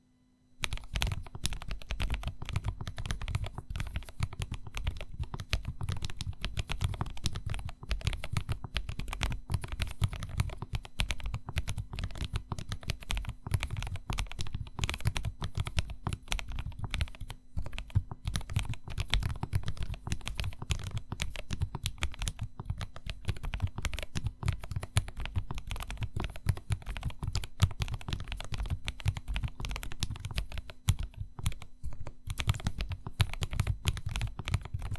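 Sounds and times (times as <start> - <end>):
fast typing on mechanical keyboard: 0.6 - 34.9.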